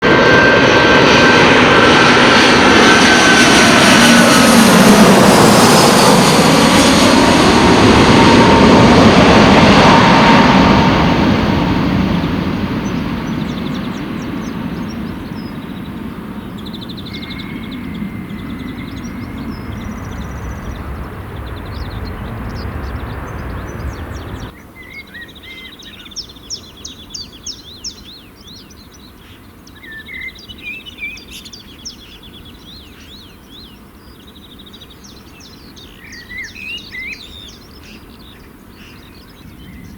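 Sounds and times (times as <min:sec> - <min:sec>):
jet airliner passing: 0:00.0 - 0:24.6, 0:30.3 - 0:39.9
birds chirping: 0:01.1 - 0:39.9.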